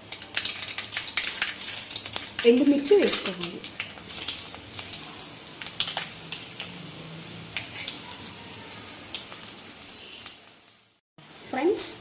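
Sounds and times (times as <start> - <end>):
crackles and clicks of frying seeds: 0.0 - 12.0
seeds sizzling in hot oil: 0.0 - 12.0.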